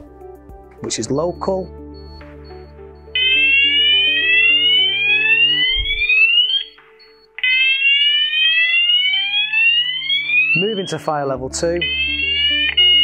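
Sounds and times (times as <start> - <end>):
fire alarm rising sweep tones: 1.1 - 11.1, 11.8 - 13.0.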